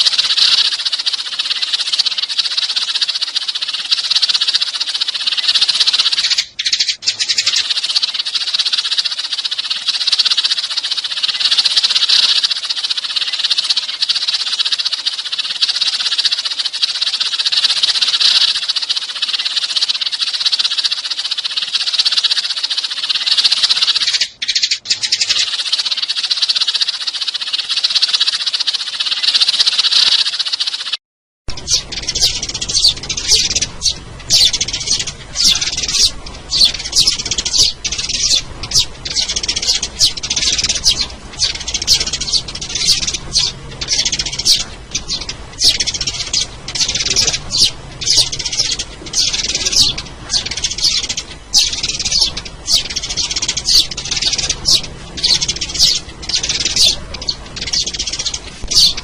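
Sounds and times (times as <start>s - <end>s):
sparrows chattering and chirping: 0.0s - 59.0s.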